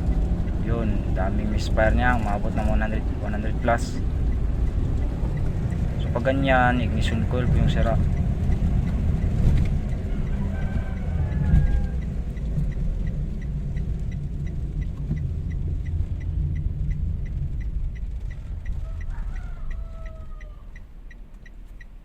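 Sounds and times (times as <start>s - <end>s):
car engine misfiring: 0.0s - 19.7s
light high ticking: 0.0s - 22.0s.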